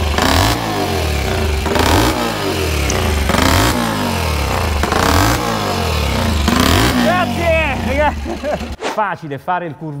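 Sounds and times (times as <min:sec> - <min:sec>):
small engine revving: 0:00.0 - 0:08.8.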